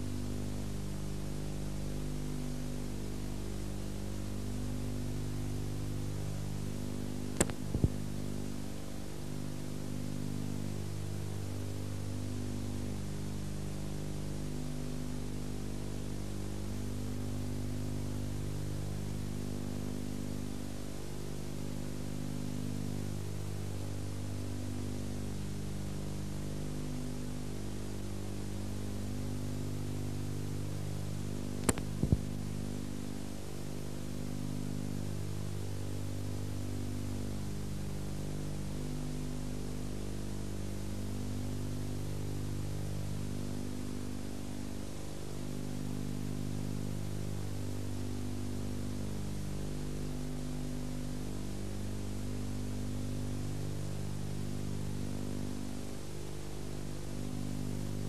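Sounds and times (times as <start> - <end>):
low mains hum with hiss: 0.0 - 58.0.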